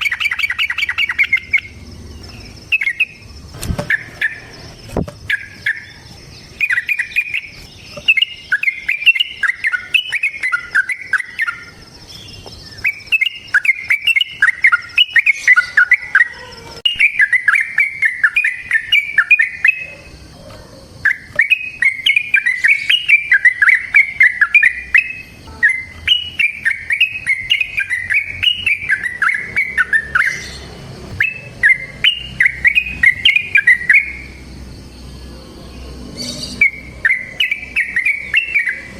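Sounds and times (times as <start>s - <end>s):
bulbul chattering song: 0.0s - 38.9s.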